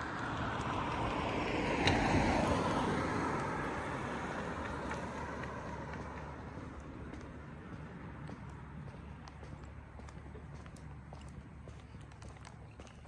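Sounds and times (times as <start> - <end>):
car passing: 0.0 - 12.8.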